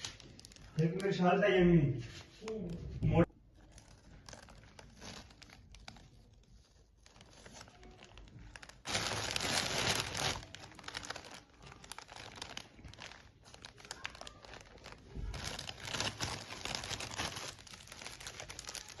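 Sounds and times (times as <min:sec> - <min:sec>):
plastic packaging crinkling: 0:00.0 - 0:01.2, 0:03.5 - 0:19.0.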